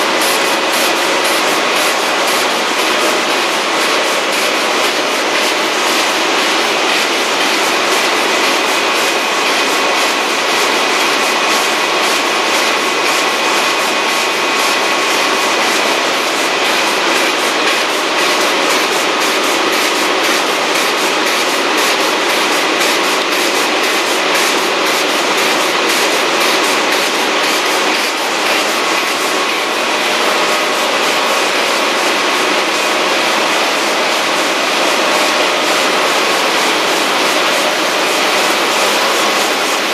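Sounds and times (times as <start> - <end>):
printing press clattering: 0.0 - 39.9.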